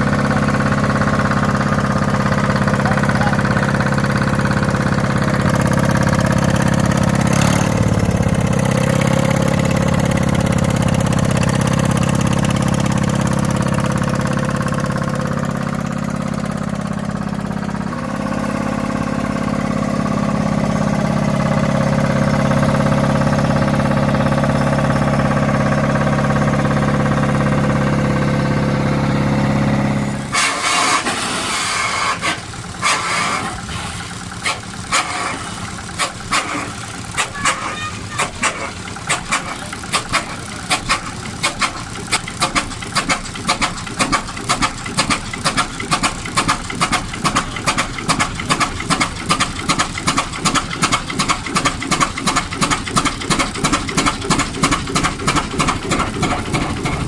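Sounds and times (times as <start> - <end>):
engine starting with exhaust beats: 0.0 - 57.0
large old engine running: 0.0 - 57.0.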